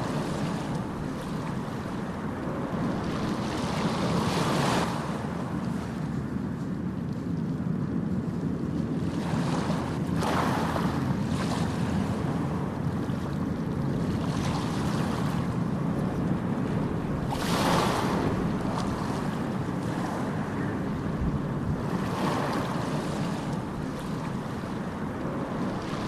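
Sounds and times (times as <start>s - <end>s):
low roar of sea: 0.0s - 26.0s
waves breaking: 0.0s - 26.0s.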